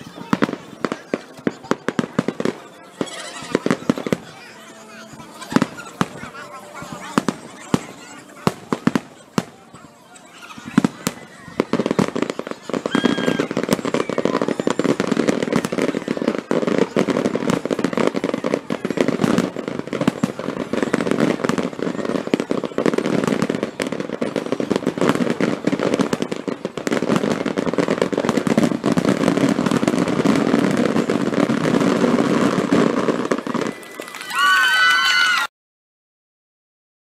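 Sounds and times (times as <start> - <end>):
fireworks bangs and crackling: 0.0 - 35.5.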